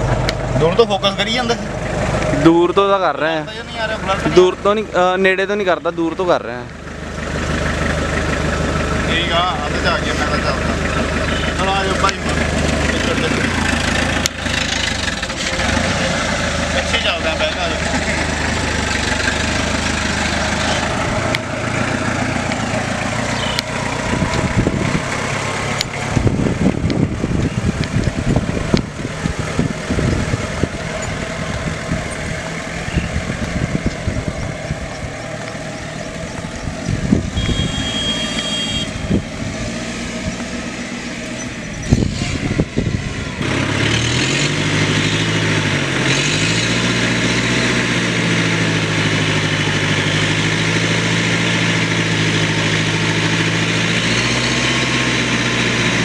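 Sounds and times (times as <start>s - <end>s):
jeep engine revving: 0.0s - 56.0s
low rumbling: 0.0s - 56.0s.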